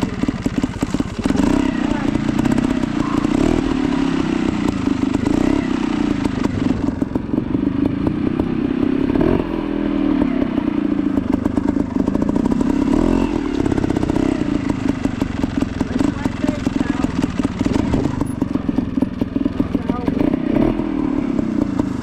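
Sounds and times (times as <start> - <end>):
motorcycle engine at low revs: 0.0 - 22.0.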